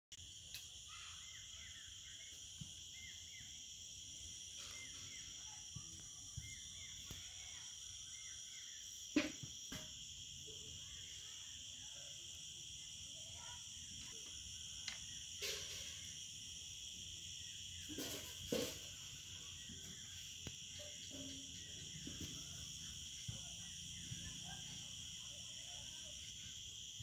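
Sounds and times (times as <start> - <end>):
insect chorus trilling: 0.2 - 27.0.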